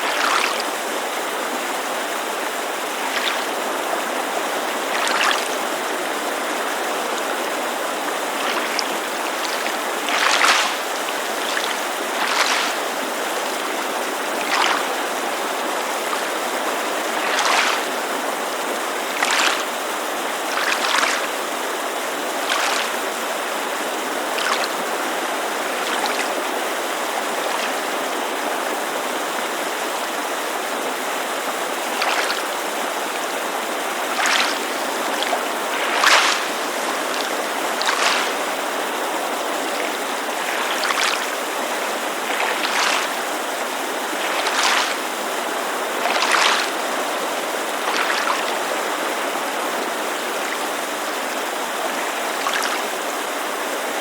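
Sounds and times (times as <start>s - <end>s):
mountain creek rushing: 0.0s - 54.0s
small waves lapping on shore: 0.0s - 54.0s.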